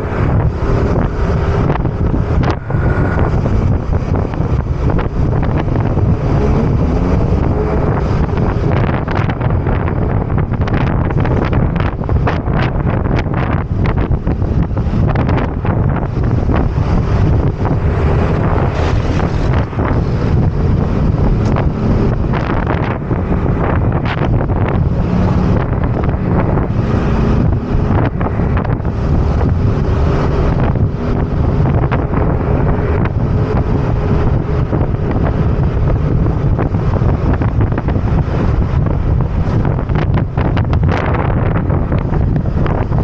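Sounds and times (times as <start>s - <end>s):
scooter engine hum: 0.0s - 43.0s
wind buffeting microphone: 0.0s - 43.0s.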